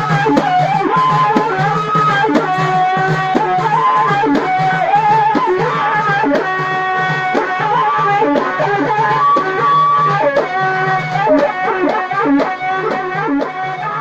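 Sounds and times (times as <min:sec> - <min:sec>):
drum strokes: 0:00.0 - 0:14.0
ornamented lead melody: 0:00.0 - 0:14.0.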